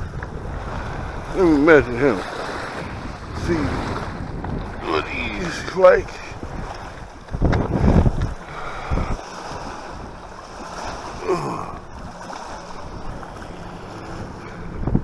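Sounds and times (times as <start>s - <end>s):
lake water lapping: 0.0s - 15.0s
rush of wind: 0.0s - 15.0s
wind buffeting microphone: 0.0s - 15.0s.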